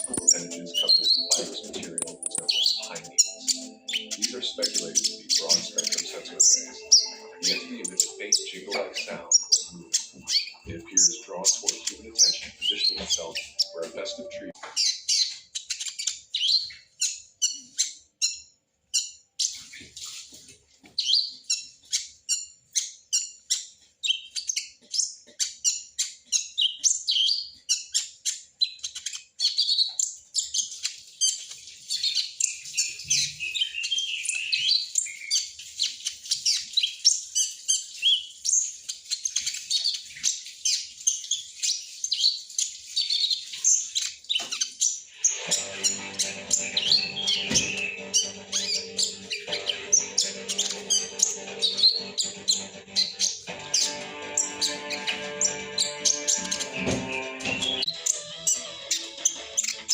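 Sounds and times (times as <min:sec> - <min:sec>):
sunbird chirping and twittering: 0:00.0 - 0:59.9.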